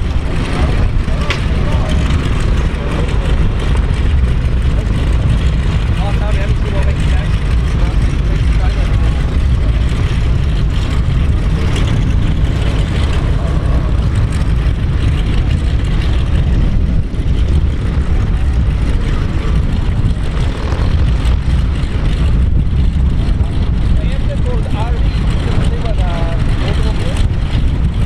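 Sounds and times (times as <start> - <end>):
jet airliner engines rumbling: 0.0 - 28.0.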